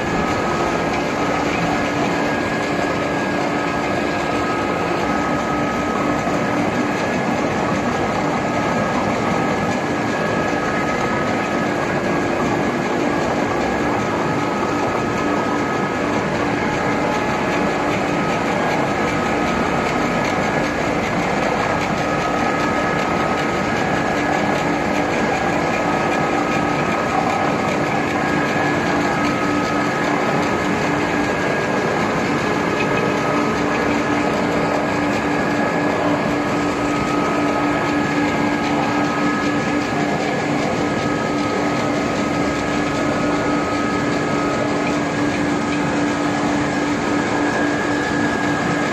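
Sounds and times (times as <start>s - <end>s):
production line machinery noise: 0.0s - 48.9s
steady humming tones: 0.0s - 48.9s.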